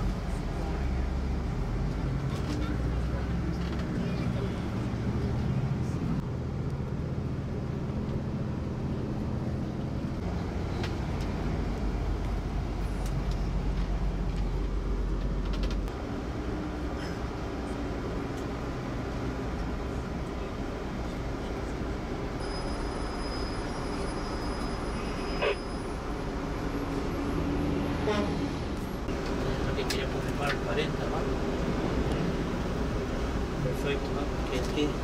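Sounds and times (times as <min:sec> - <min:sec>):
bus engine drone: 0:00.0 - 0:35.0
road rumble: 0:00.0 - 0:35.0.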